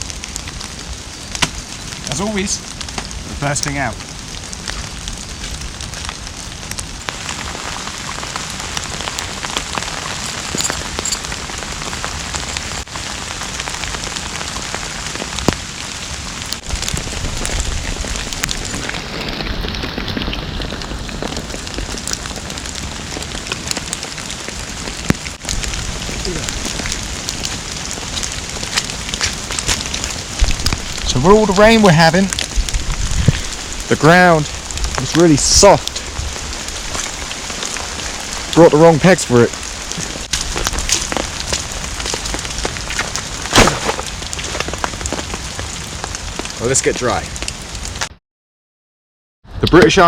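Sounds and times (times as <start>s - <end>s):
heavy rain falling: 0.0s - 48.1s
raindrops ticking: 0.0s - 48.1s.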